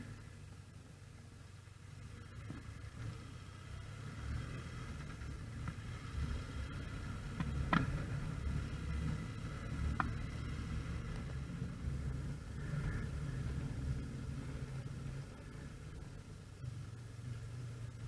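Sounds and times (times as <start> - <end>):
motorcycle engine rumble: 0.0 - 18.0
wind: 0.0 - 18.0.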